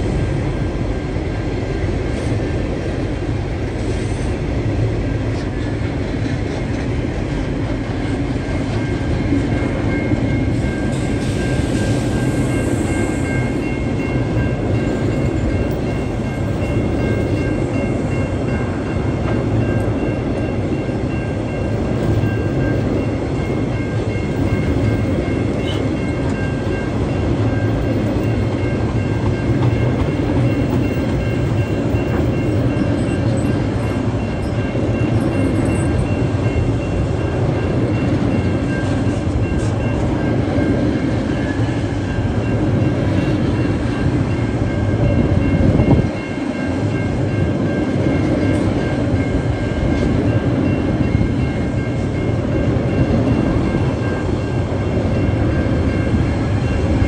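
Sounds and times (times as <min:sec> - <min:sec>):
train wheels clattering on rails: 0:00.0 - 0:57.0
crossing alarm bells ringing: 0:07.0 - 0:57.0.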